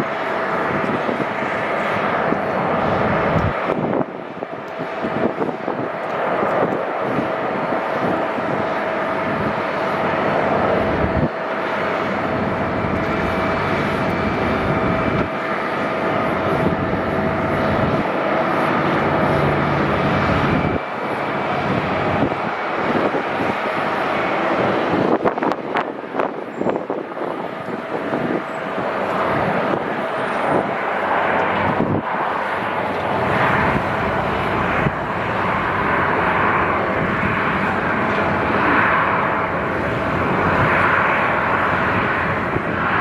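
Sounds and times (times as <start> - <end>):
jet airliner engines roaring: 0.0 - 43.0.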